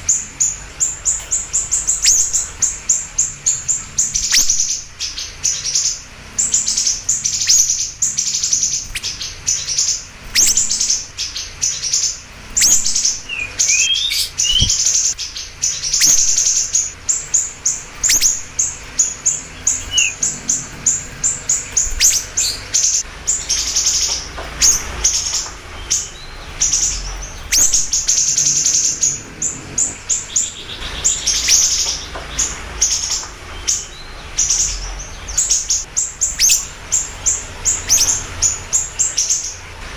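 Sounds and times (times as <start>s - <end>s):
songbird singing rapid chirps: 0.0s - 39.9s.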